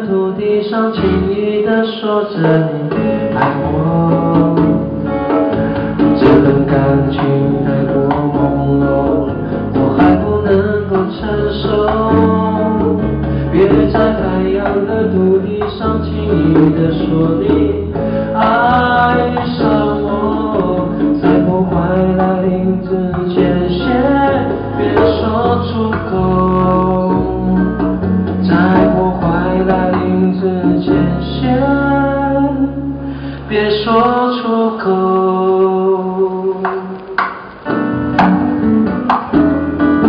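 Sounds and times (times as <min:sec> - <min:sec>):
man singing: 0:00.0 - 0:37.6
acoustic guitar: 0:00.0 - 0:40.0.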